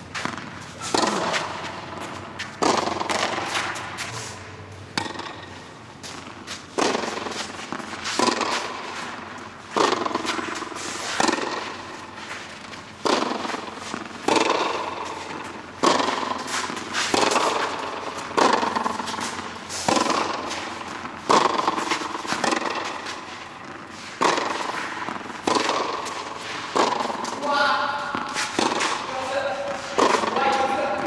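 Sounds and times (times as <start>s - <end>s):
tennis ball struck by rackets: 0.1s - 31.0s.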